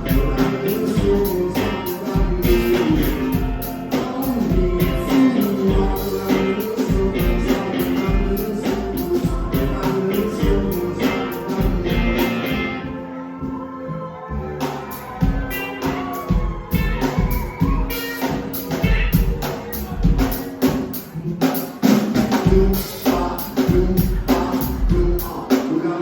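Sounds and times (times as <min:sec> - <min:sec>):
drums and cymbals: 0:00.0 - 0:12.7, 0:14.6 - 0:26.0
live rock band playing: 0:00.0 - 0:13.9, 0:14.5 - 0:26.0.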